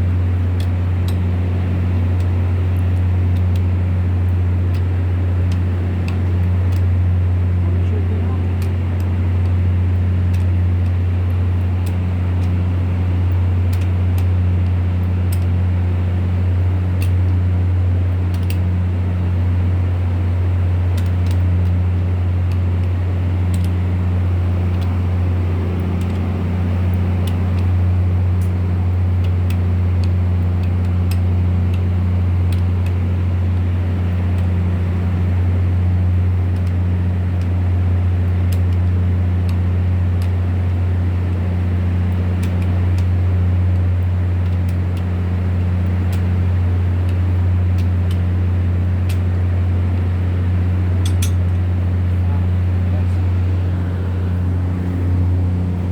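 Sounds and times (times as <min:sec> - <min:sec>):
diesel generator humming: 0:00.0 - 0:55.9
faint engine ticks: 0:00.0 - 0:55.9.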